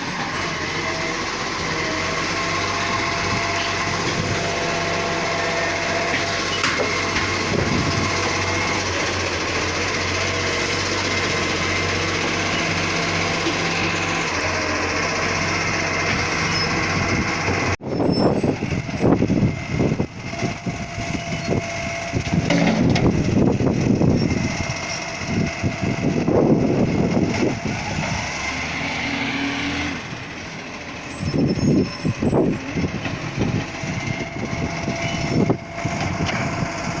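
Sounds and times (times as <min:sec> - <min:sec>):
garbage truck engine surging: 0:00.0 - 0:37.0.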